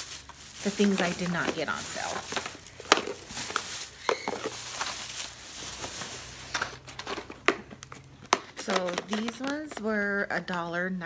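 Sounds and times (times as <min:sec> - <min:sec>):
plastic bag rustling: 0:00.0 - 0:10.2.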